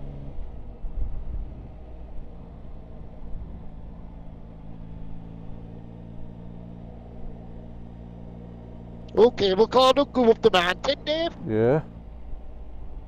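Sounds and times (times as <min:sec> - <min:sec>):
motorcycle engine cruising: 0:00.0 - 0:13.0
road noise: 0:00.0 - 0:13.0.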